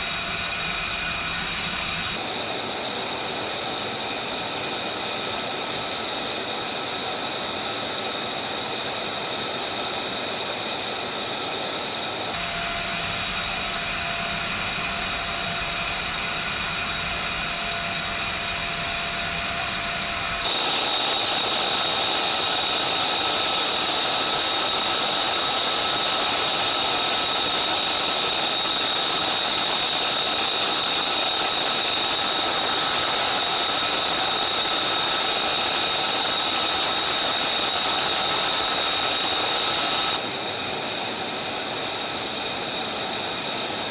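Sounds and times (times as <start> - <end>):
jet engine whine: 0.0 - 43.9.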